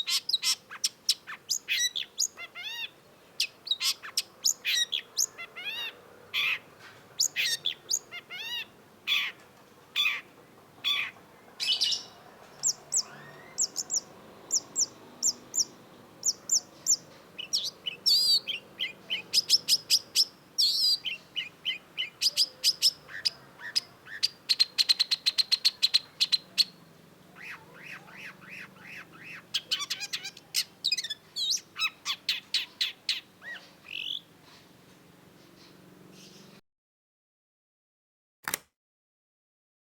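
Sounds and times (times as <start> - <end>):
bird singing fast varied song: 0.0 - 9.4, 10.0 - 36.6.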